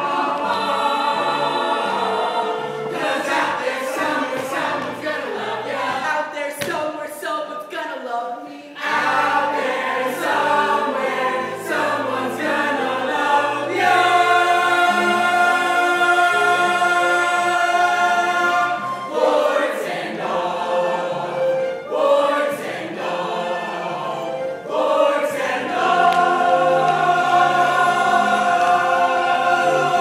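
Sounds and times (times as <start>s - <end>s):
musical accompaniment: 0.0s - 7.1s, 8.6s - 30.0s
cast singing together: 0.0s - 30.0s.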